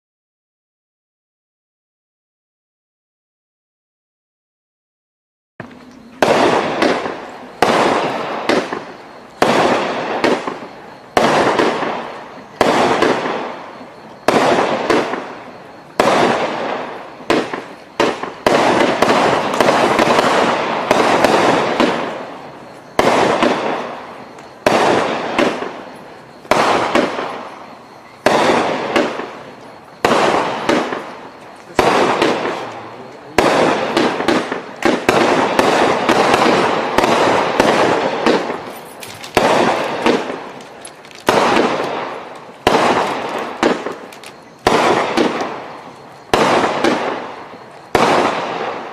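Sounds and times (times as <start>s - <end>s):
fireworks bangs and crackle: 5.6s - 48.9s.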